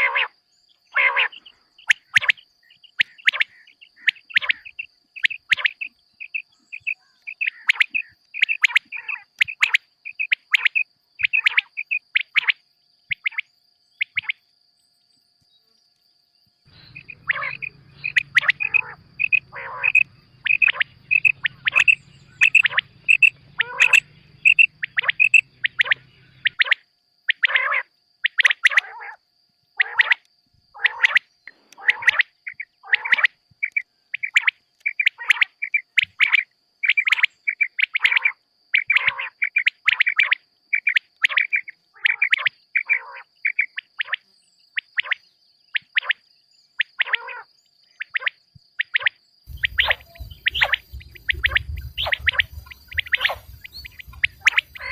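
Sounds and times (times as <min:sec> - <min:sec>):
quail calling: 0:00.0 - 0:13.4, 0:16.7 - 0:27.8, 0:30.8 - 0:44.1, 0:48.2 - 0:54.9.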